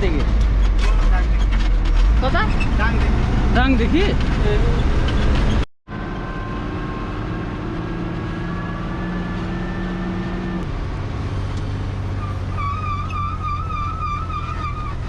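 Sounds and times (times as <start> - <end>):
truck engine droning inside cab: 0.2 - 15.0.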